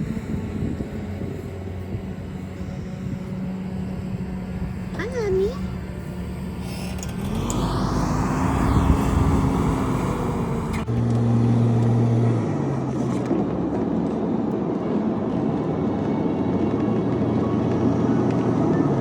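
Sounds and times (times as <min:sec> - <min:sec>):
road noise: 0:00.0 - 0:19.0
vehicle engine hum: 0:00.0 - 0:19.0.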